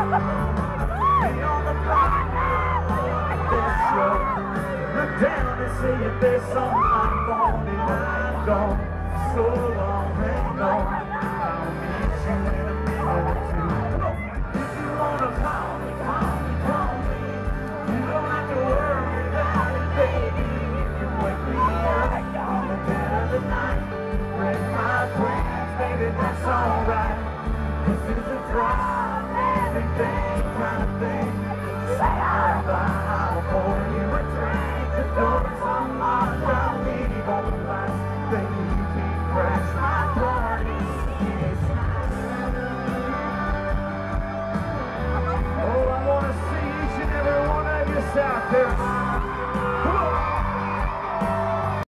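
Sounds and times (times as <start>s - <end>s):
person singing: 0.0s - 44.2s, 45.0s - 51.9s
fans yelling and whooping: 0.0s - 51.9s
live country band playing: 0.0s - 51.9s.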